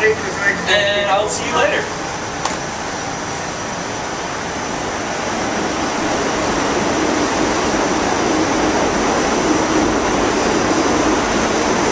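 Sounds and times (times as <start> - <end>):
subway car rumbling: 0.0 - 11.9.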